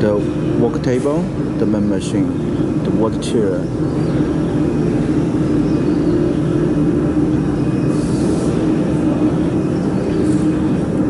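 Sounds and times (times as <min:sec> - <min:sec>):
loud machinery hum: 0:00.0 - 0:11.0.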